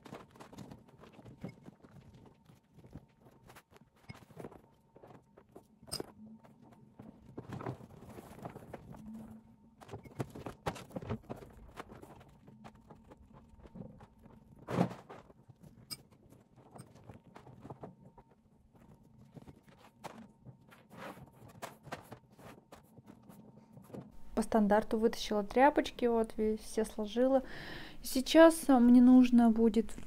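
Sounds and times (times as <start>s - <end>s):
fabric rustling: 0.0s - 24.4s.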